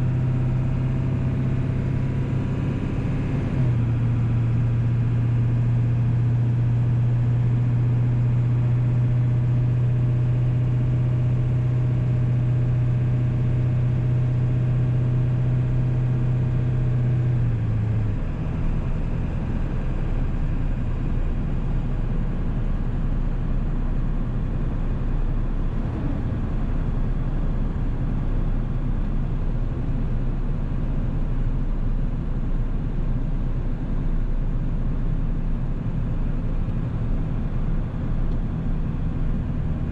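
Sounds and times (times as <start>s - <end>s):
diesel engine droning while driving: 0.0s - 39.9s.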